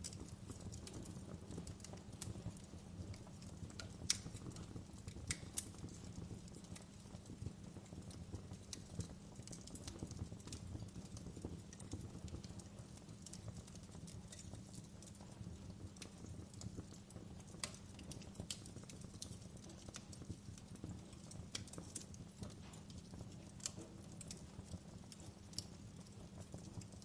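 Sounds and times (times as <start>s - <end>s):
rumble of fire flames: 0.0s - 27.0s
wood fire crackling and popping: 0.0s - 27.0s.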